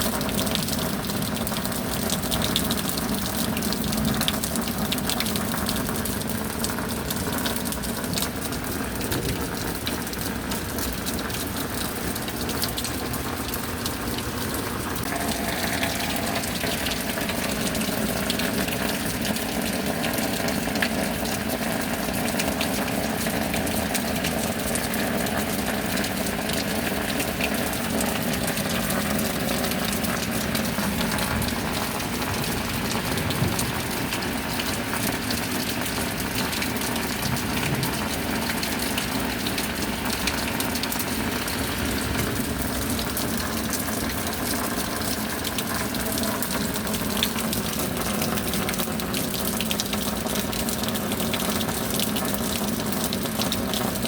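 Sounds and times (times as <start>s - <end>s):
steady rain: 0.0s - 54.0s
water gushing and pouring: 0.0s - 54.0s.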